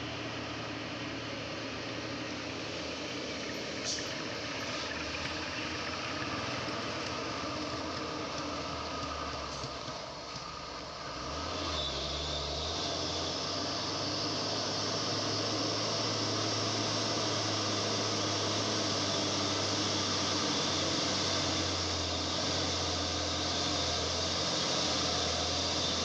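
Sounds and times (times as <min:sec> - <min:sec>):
diesel truck engine under load: 0:00.0 - 0:26.0.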